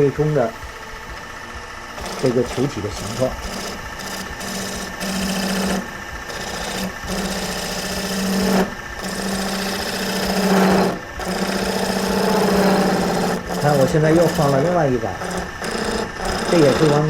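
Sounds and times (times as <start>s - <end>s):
gouge cutting spinning wood: 0.0s - 17.0s
wood lathe running: 0.0s - 17.0s.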